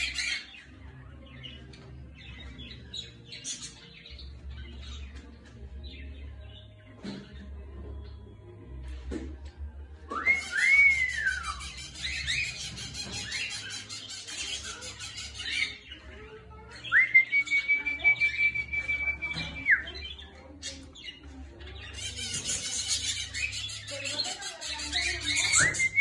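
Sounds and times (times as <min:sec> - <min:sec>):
budgerigars warbling and chattering: 0:00.0 - 0:08.4, 0:10.3 - 0:16.9, 0:17.5 - 0:26.0.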